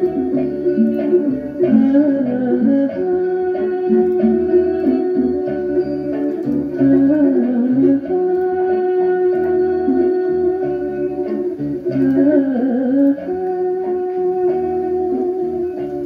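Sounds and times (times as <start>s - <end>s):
instrumental music from cassette: 0.0s - 16.0s.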